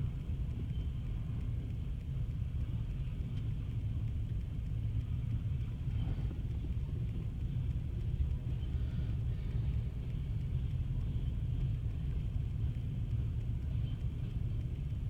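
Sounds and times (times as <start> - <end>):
freight train cars rumbling: 0.0 - 15.0.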